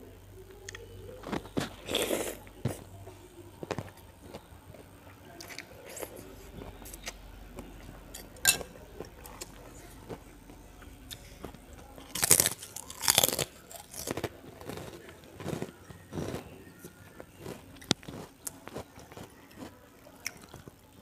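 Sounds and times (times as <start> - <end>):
close chewing: 0.4 - 21.0
cracker crunching: 0.5 - 21.0.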